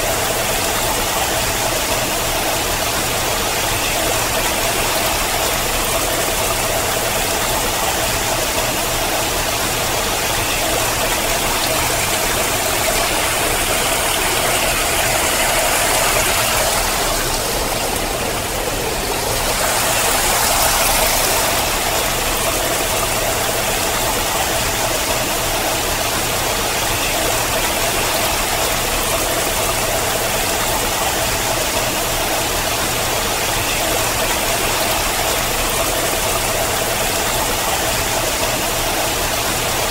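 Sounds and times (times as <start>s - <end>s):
water pouring down rock: 0.0s - 39.8s.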